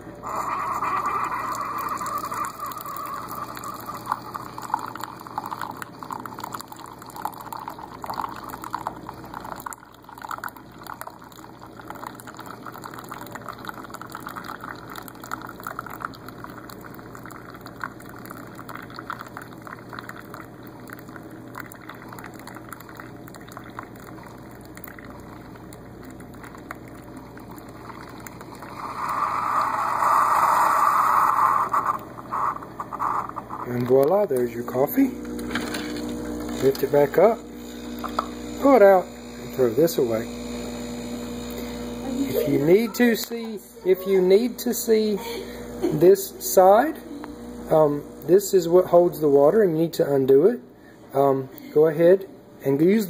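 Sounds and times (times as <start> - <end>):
coffee maker pump running: 0.0 - 50.5, 51.1 - 53.0
coffee pouring into mug: 0.1 - 50.5.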